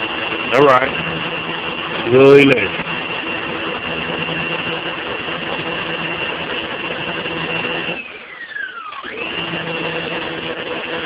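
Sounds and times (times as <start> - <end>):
electric pressure washer whining: 0.0 - 11.0.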